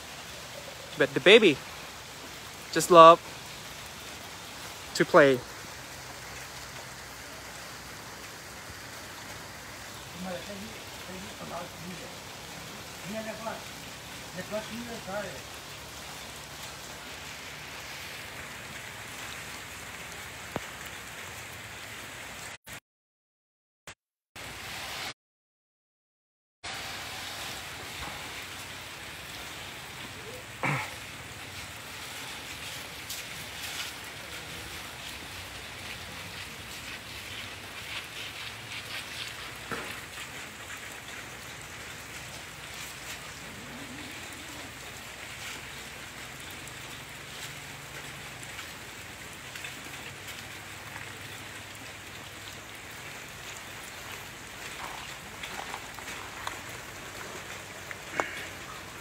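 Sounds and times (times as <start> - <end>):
rain on wet ground: 0.0 - 22.6, 24.4 - 25.1, 26.6 - 59.0.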